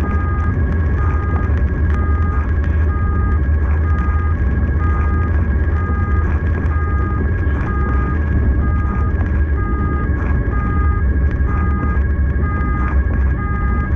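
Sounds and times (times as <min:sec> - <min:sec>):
two-tone siren: 0:00.0 - 0:13.9
vehicle driving rumble: 0:00.0 - 0:13.9.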